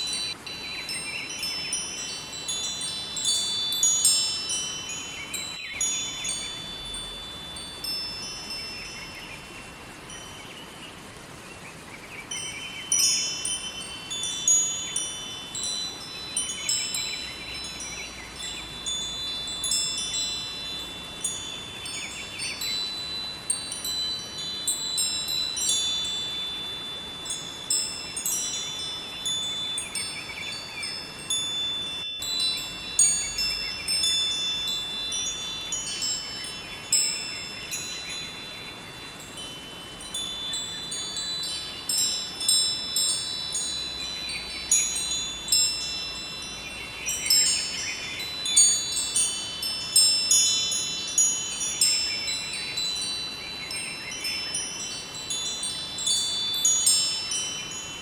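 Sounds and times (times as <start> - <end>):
wind chimes ringing: 0.0 - 11.4, 12.2 - 58.0
flowing river water: 0.0 - 58.0.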